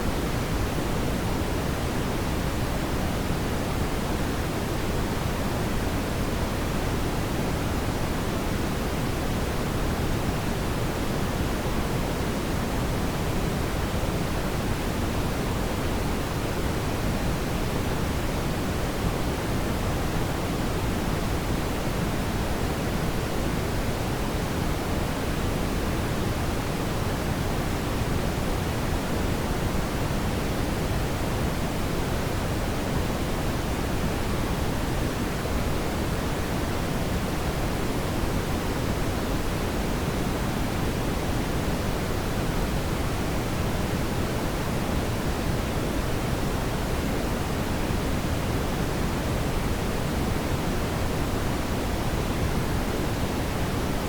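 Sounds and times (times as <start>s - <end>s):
brown noise hiss: 0.0s - 54.0s.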